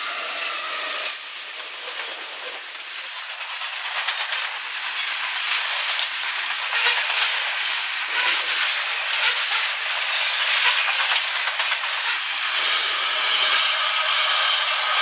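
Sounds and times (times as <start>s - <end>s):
wheels clicking over rail joints: 0.0s - 12.8s
steel wheels rushing on rail: 0.0s - 15.0s.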